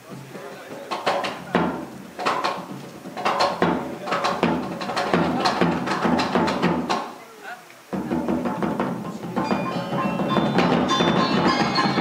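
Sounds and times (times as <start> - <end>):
hand drums slaps and tones: 0.0 - 7.2, 7.9 - 12.0.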